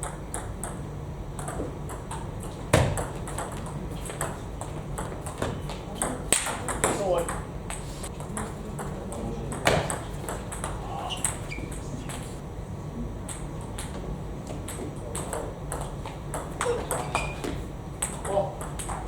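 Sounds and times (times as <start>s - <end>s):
table tennis balls clicking: 0.0s - 12.4s, 13.3s - 19.0s.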